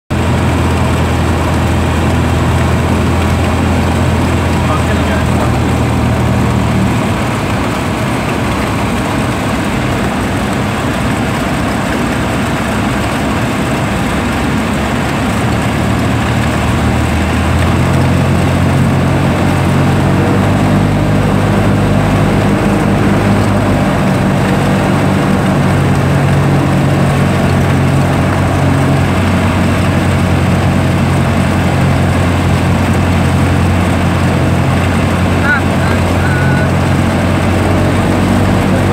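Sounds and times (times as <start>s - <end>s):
light aircraft engine and propeller: 0.1s - 38.9s.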